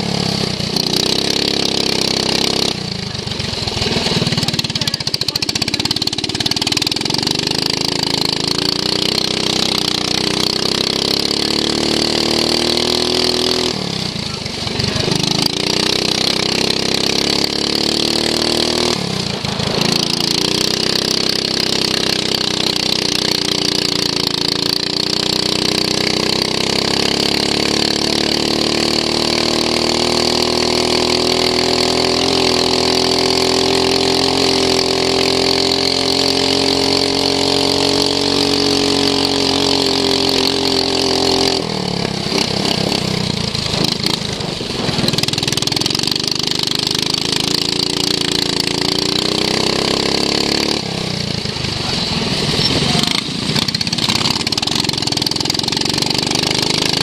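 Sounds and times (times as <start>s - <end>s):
lawn mower engine at high revs: 0.0s - 57.0s.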